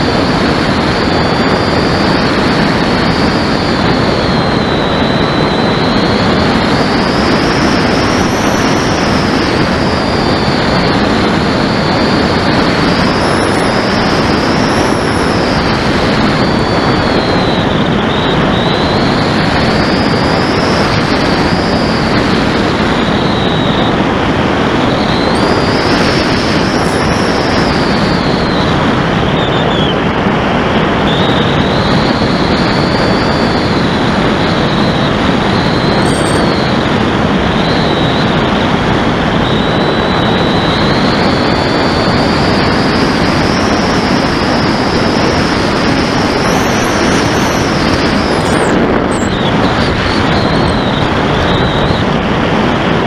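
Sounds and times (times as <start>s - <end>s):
electric motor and propeller whine: 0.0s - 53.0s
wind rushing over camera: 0.0s - 53.0s.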